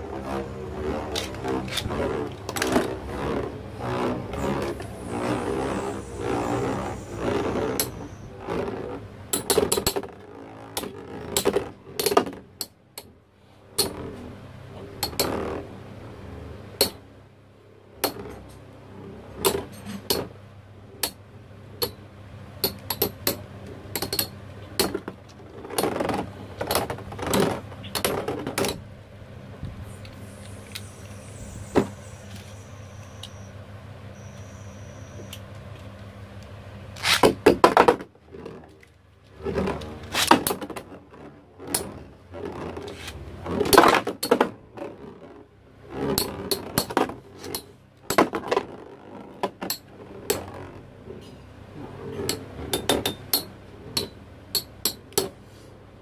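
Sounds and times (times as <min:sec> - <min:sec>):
spinning hum: 0:00.0 - 0:37.0, 0:37.7 - 0:54.5.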